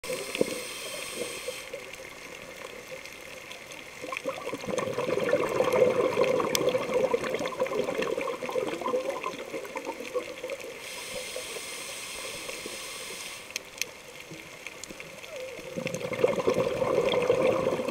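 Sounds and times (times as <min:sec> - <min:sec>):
underwater air bubbling: 0:00.0 - 0:17.9.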